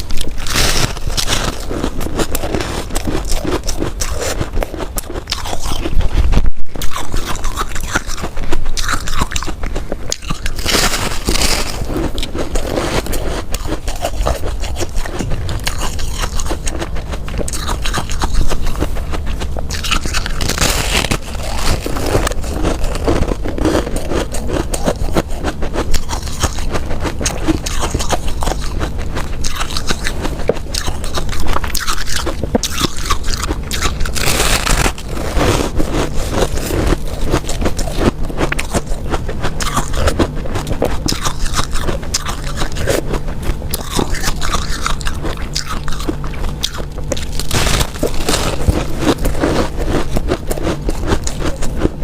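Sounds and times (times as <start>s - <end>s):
ice crunching while chewed: 0.0s - 52.0s.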